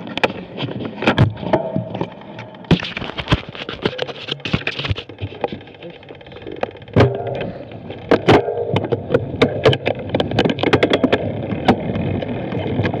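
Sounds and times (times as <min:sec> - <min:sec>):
bike knocks and rattles: 0:00.0 - 0:13.0.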